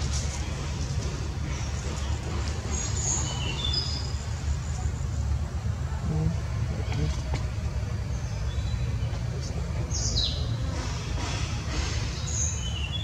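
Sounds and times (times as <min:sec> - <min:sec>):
birds chirping: 0:00.0 - 0:05.3, 0:06.0 - 0:13.0
steady low rumble: 0:00.0 - 0:12.4.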